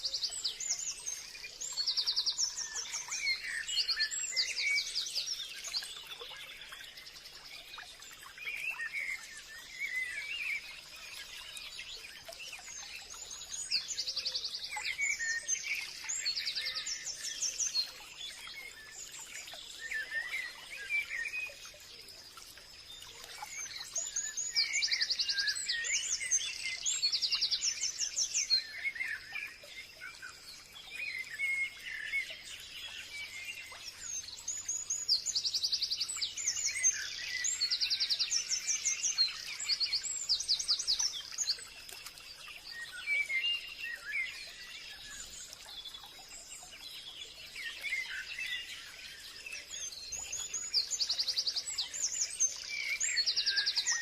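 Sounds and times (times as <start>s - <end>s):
birds singing: 0.0s - 54.0s.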